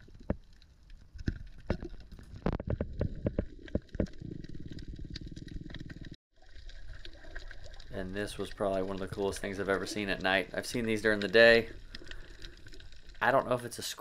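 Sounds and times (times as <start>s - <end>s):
sharp underwater clicks and knocks: 0.0s - 13.2s
bubbling of exhaled air: 1.5s - 13.2s.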